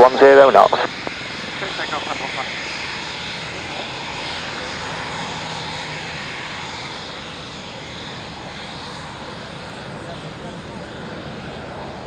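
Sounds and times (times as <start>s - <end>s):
aircraft engine roar: 0.0s - 12.0s.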